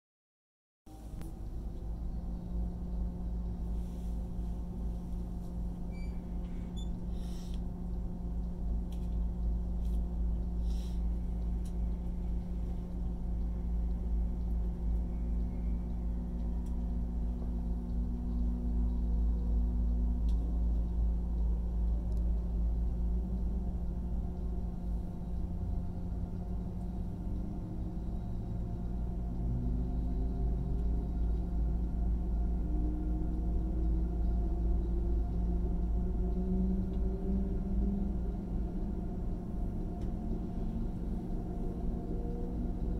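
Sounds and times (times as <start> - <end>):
train rumble and hum: 0.9 - 42.9.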